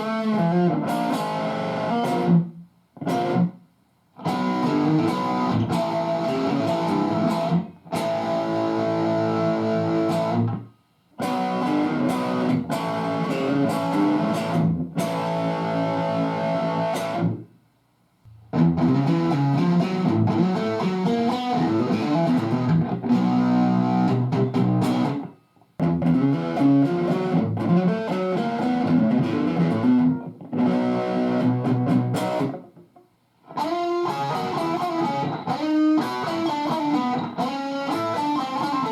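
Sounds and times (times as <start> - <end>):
distorted electric guitar riffs: 0.0 - 3.6, 4.2 - 17.5, 18.3 - 38.9.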